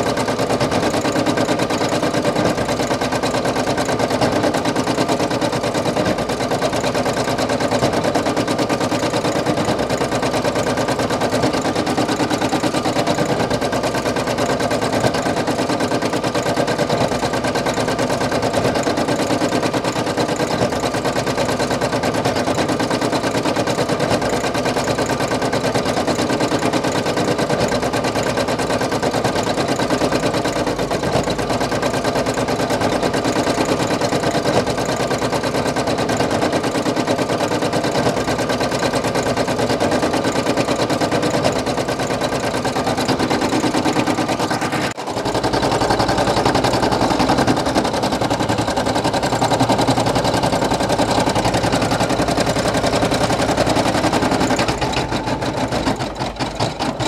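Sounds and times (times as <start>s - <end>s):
embroidery machine stitching: 0.0s - 57.0s.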